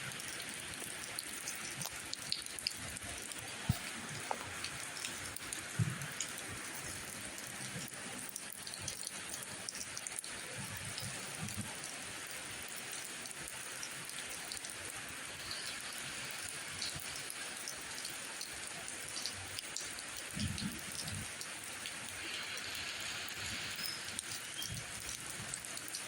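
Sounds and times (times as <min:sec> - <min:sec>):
individual raindrops: 0:00.0 - 0:26.0
steady rain falling: 0:00.0 - 0:26.0.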